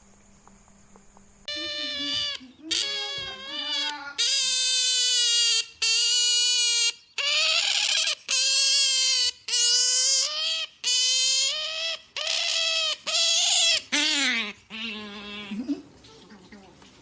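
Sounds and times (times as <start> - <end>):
otter squealing: 1.5 - 15.7.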